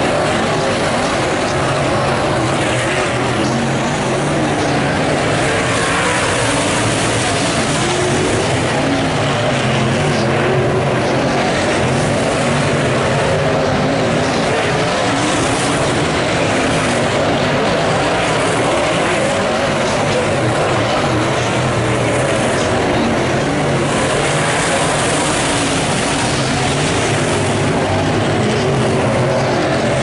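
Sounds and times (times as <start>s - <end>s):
racing car engines: 0.0s - 30.0s.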